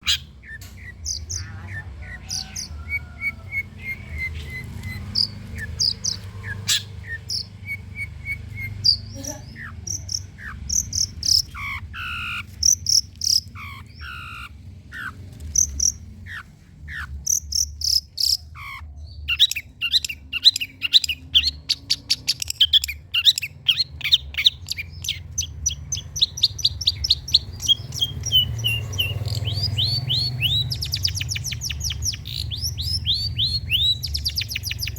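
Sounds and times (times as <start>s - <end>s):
bird singing and chattering: 0.0s - 34.9s.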